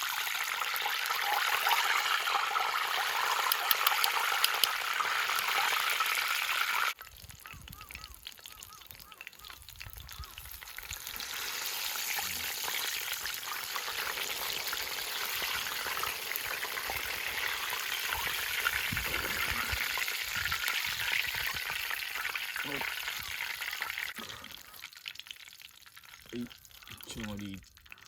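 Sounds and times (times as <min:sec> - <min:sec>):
chicken deep-frying in oil: 0:00.0 - 0:28.0.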